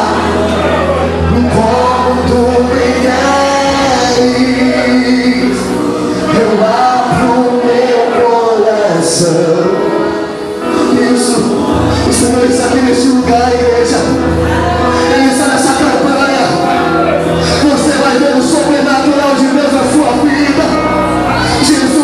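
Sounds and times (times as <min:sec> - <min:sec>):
man singing a hymn into a microphone: 0:00.0 - 0:22.0.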